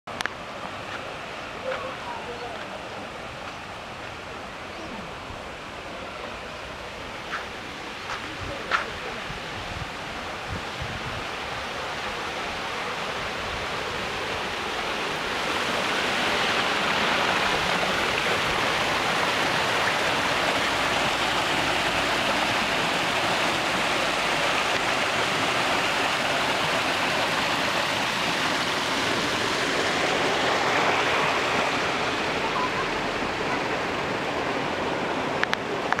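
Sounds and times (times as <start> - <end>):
waterfall cascading over rocks: 0.1 - 36.0.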